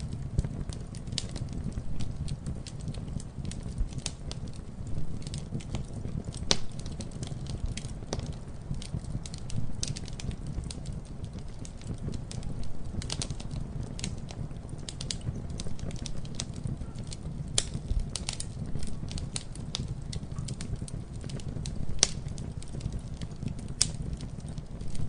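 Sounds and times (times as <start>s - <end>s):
campfire crackling and popping: 0.0s - 25.0s
low steady rumble: 0.0s - 25.0s.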